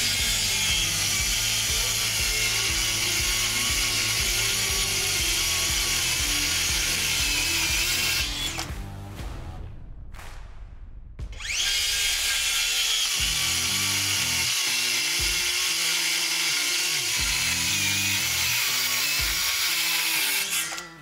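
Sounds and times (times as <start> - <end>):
circular saw cutting wood: 0.0 - 8.8, 11.4 - 21.0
background music: 0.0 - 10.6, 11.2 - 21.0.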